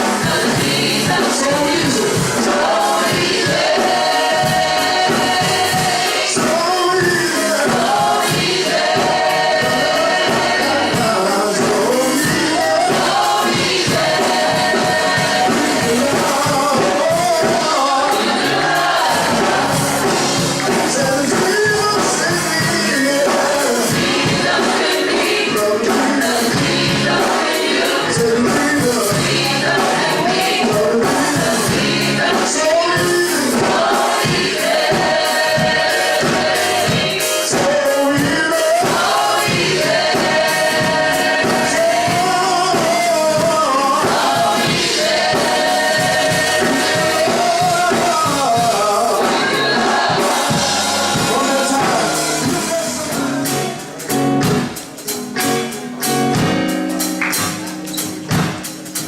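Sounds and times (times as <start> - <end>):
band with steady beat: 0.0 - 59.0
gospel choir singing: 0.0 - 59.0.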